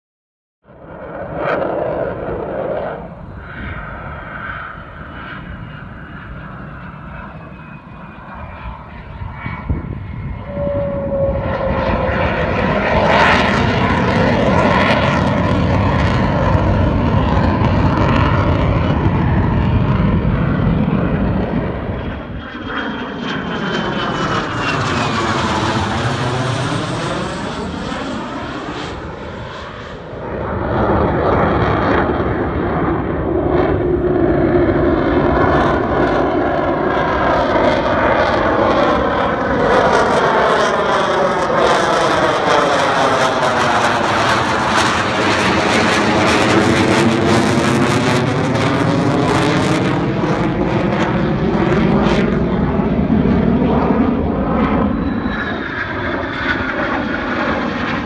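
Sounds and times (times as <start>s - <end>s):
jet flying past: 0.7s - 58.0s
falling jet whine: 0.8s - 58.0s.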